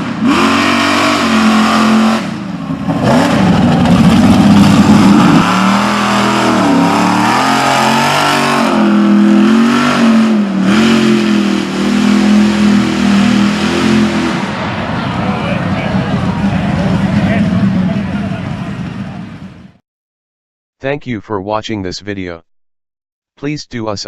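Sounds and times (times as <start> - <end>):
truck engine revving hard: 0.0 - 19.7.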